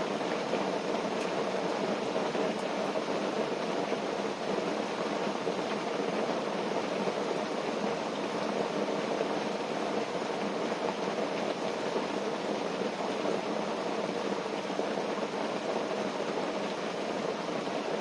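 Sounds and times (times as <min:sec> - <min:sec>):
rain pattering on a tent: 0:00.0 - 0:18.0.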